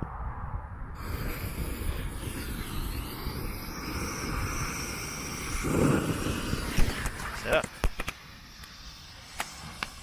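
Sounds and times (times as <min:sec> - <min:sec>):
wind rumbling on microphone: 0:00.0 - 0:10.0
firework hissing: 0:01.0 - 0:10.0.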